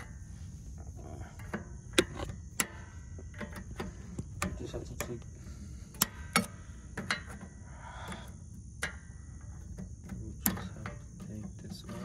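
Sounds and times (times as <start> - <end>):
crickets buzzing: 0.0 - 12.0.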